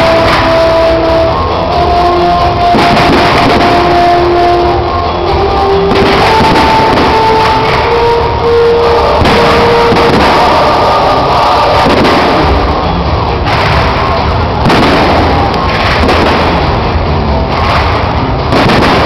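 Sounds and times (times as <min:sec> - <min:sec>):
fireworks bursting: 0:00.0 - 0:19.0
music from loudspeakers: 0:00.0 - 0:19.0.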